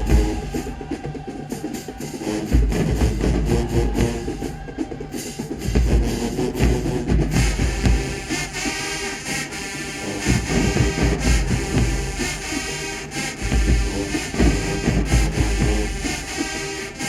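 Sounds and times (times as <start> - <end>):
drumline beats: 0.0 - 17.0
marching band brass: 0.0 - 17.0.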